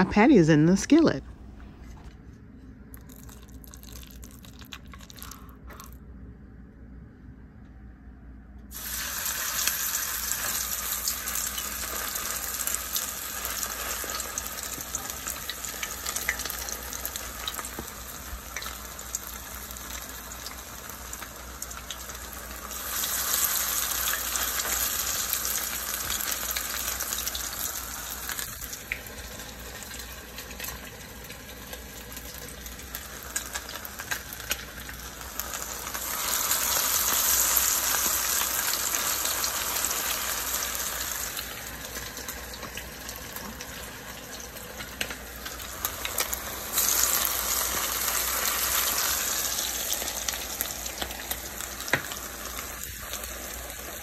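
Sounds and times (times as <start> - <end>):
patties sizzling in hot oil: 3.0 - 6.0, 8.7 - 54.0.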